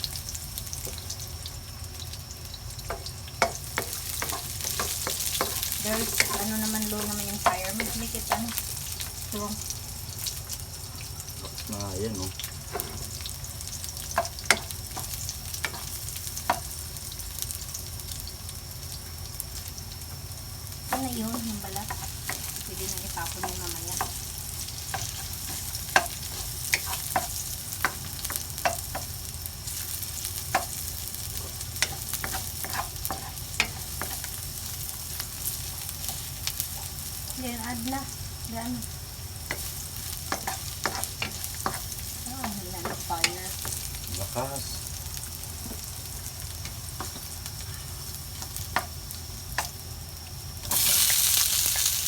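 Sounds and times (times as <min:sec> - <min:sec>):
food sizzling in hot oil: 0:00.0 - 0:52.0.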